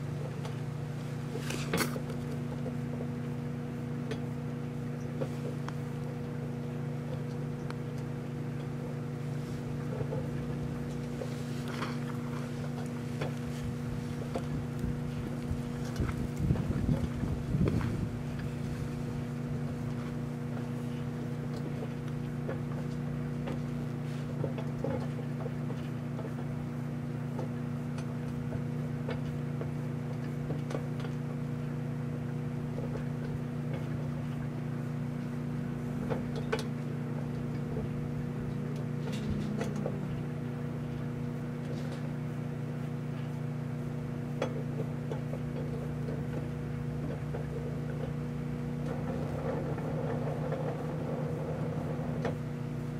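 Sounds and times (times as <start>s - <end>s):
microwave oven humming: 0.0s - 52.9s.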